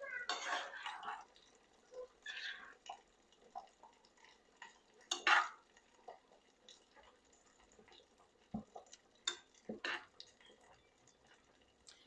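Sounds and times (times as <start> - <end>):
spoon stirring in cooking pot: 0.2 - 12.0.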